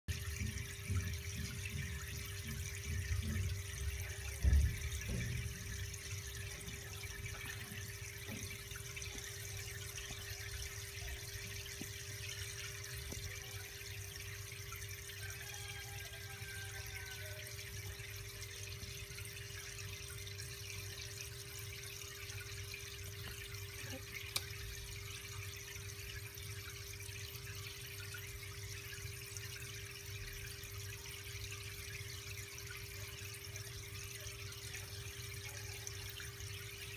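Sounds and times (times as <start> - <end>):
filter motor hum: 0.1 - 36.9
trickle of water: 0.1 - 36.9.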